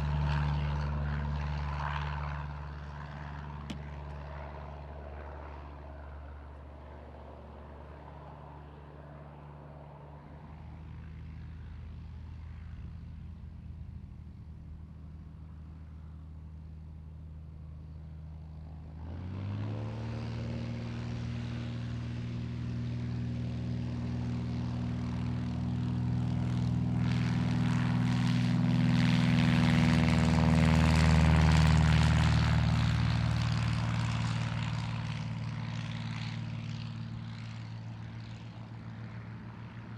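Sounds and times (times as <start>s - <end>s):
propeller aircraft engine: 0.0s - 39.9s.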